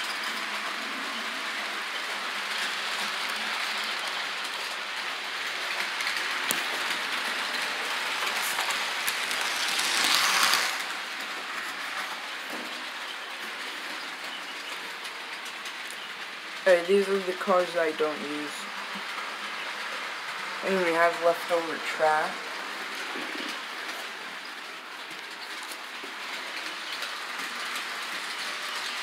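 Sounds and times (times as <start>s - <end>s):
model train wheels clattering on rails: 0.0s - 29.0s.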